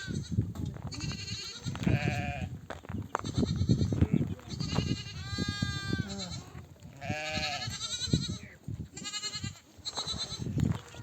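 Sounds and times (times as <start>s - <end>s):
sheep bleating: 0.0s - 2.5s, 3.2s - 11.0s.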